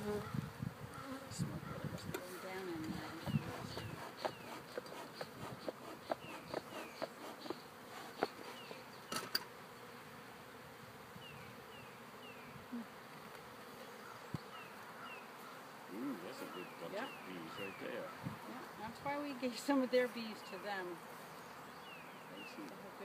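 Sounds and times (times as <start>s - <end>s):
honeybees buzzing: 0.0s - 23.0s.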